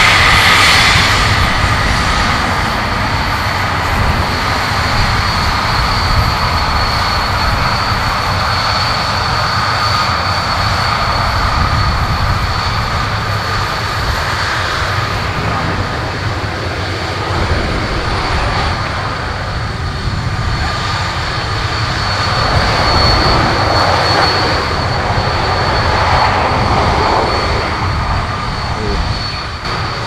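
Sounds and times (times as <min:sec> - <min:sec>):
jet engines whining at taxi power: 0:00.0 - 0:30.0.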